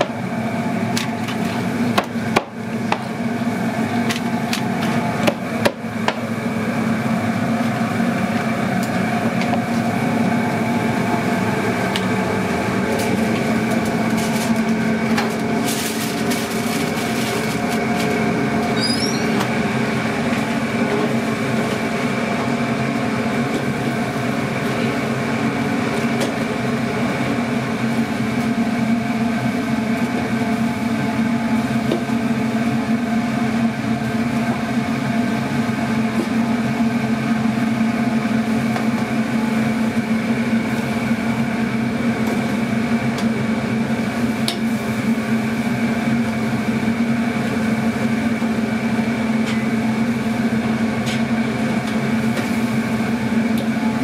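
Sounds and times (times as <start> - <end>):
kitchen equipment humming: 0.0 - 54.0.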